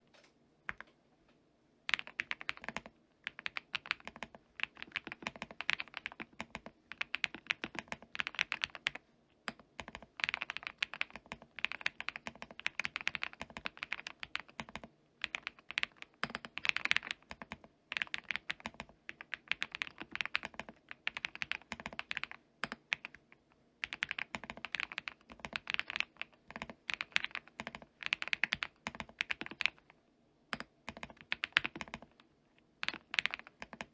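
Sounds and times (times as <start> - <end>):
mechanical keyboard typing: 1.9 - 23.2, 23.8 - 29.9, 30.5 - 32.2, 32.8 - 33.9.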